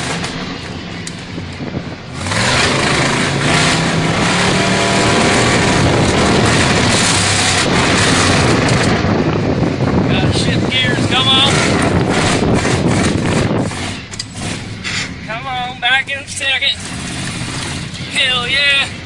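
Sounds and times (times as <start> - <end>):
truck engine accelerating: 0.0 - 19.0.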